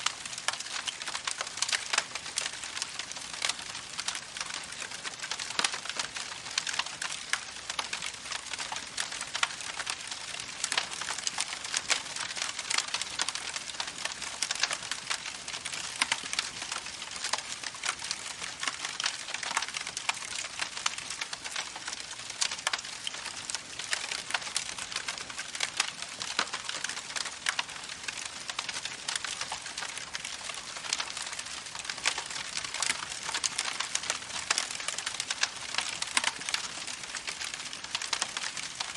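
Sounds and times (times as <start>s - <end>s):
burning wood popping: 0.0s - 38.9s
campfire crackling: 0.0s - 38.9s.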